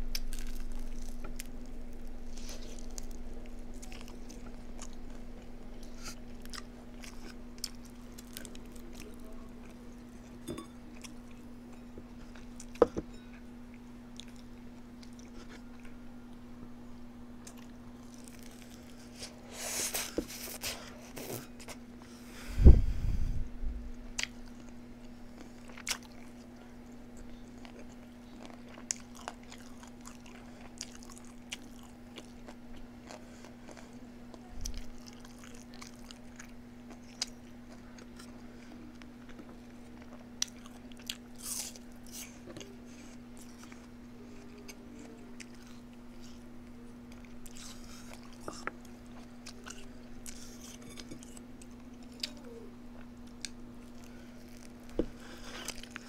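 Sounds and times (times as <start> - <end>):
person chewing: 0.0 - 16.0, 17.4 - 21.8, 24.1 - 56.0
steady low hum: 0.0 - 56.0.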